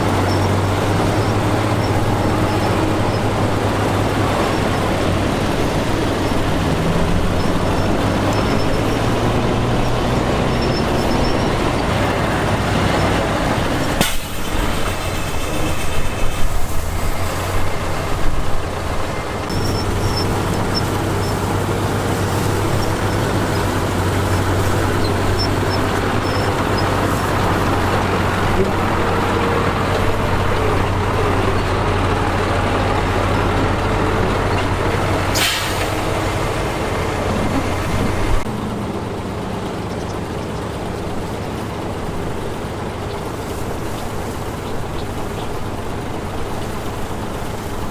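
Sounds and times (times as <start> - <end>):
heavy diesel machinery droning: 0.0 - 47.9.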